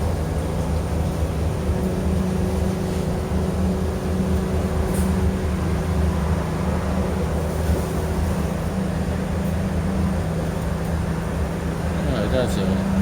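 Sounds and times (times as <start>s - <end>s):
bus interior drone: 0.0s - 13.0s.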